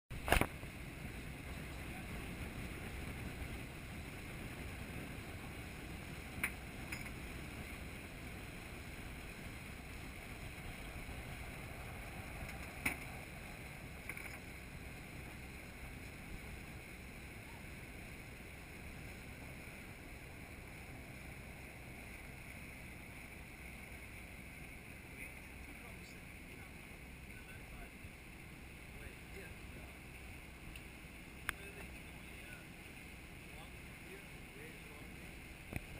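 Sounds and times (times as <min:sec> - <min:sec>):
water rushing along hull: 0:00.1 - 0:35.9.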